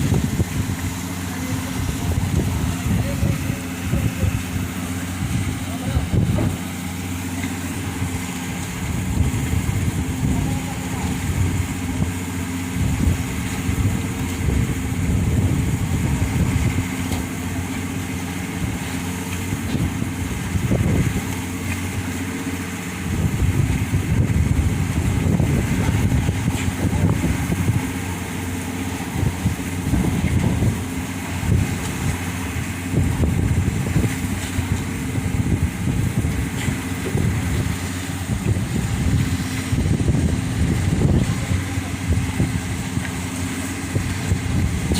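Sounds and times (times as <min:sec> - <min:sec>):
ferry engines running: 0:00.0 - 0:44.9
wind rumbling on microphone: 0:00.0 - 0:44.9.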